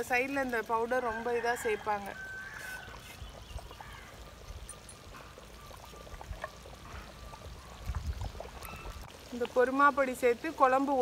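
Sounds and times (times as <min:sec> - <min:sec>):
curry bubbling at the boil: 0:00.0 - 0:11.0.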